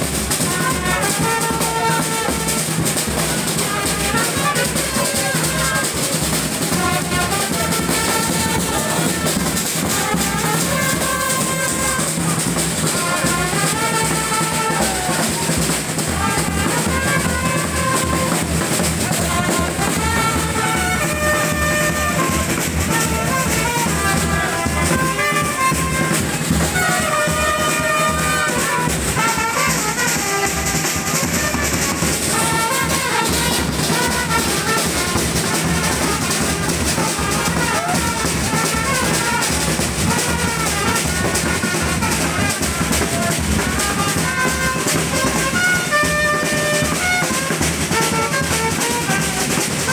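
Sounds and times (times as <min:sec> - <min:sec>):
bass drum beat: 0:00.0 - 0:49.9
brass horns playing melody: 0:00.0 - 0:49.9.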